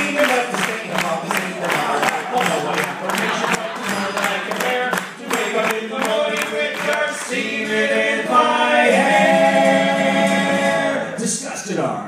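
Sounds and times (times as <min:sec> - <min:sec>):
men singing in harmony: 0:00.0 - 0:11.2.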